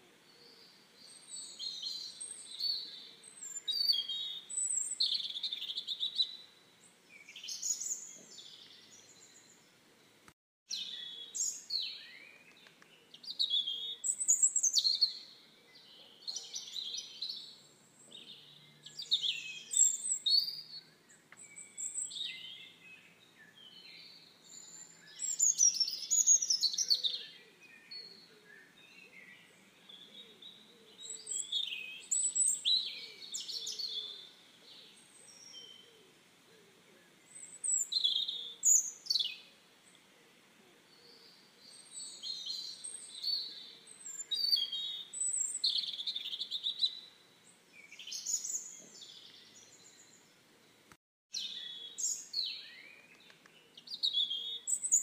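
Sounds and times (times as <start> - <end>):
songbirds chirping and warbling: 0.0 - 55.0.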